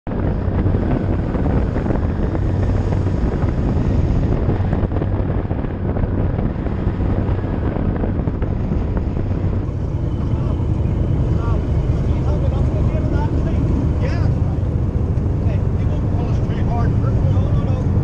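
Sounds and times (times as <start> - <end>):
boat engine humming: 0.0 - 18.0
wind rushing over microphone: 0.0 - 18.0.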